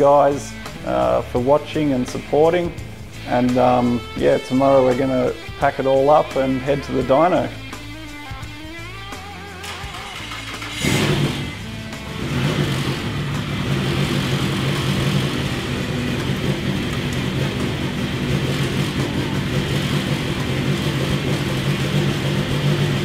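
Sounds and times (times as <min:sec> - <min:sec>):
four-cylinder engine running: 0:00.0 - 0:23.0.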